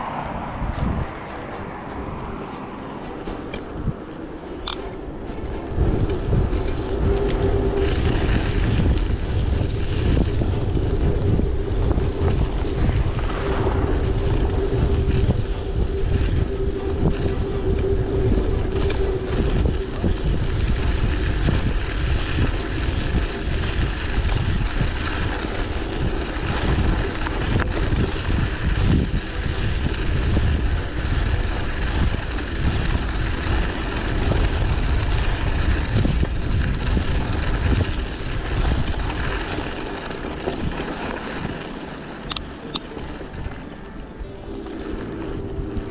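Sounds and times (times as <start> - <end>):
steady hum: 0.0 - 45.9
wind buffeting microphone: 0.0 - 45.9.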